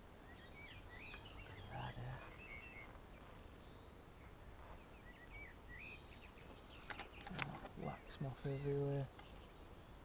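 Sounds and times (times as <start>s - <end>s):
faint birdsong chirps and trills: 0.0s - 10.0s.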